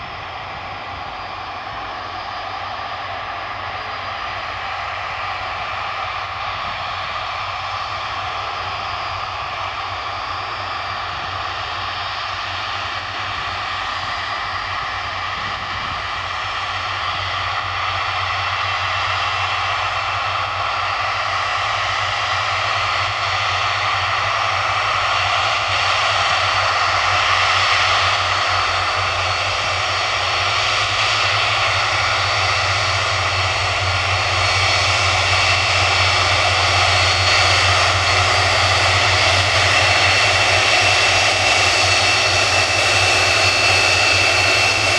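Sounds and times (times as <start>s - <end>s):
jet engines whining: 0.0s - 44.9s.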